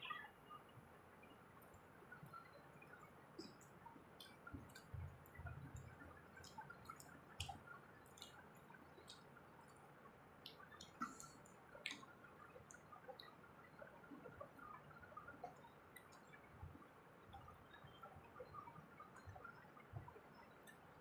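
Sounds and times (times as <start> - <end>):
people chewing food: 1.6 - 21.0.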